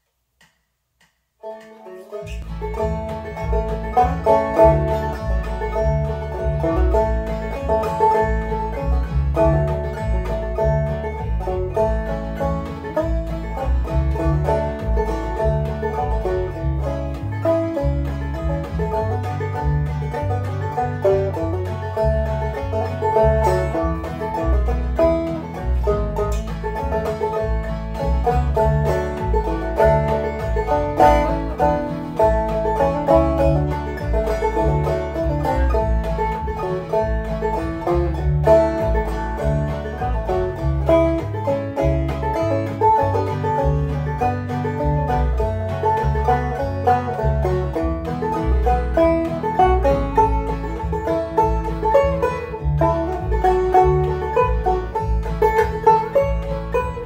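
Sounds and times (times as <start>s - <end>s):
banjo plucked notes: 1.4s - 57.0s
backing track bass line: 2.1s - 57.0s.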